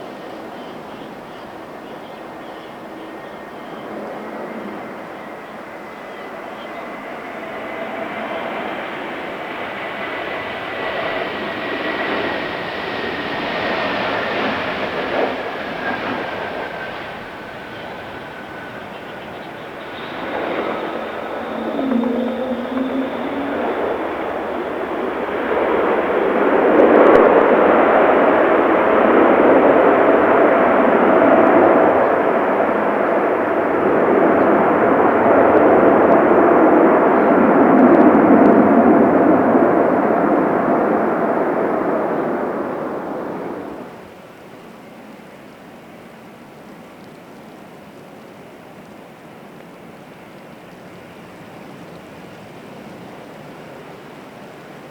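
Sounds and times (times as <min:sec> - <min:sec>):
jet engines rushing: 0:00.0 - 0:44.8, 0:49.7 - 0:54.9
jet engine whine: 0:00.0 - 0:54.9.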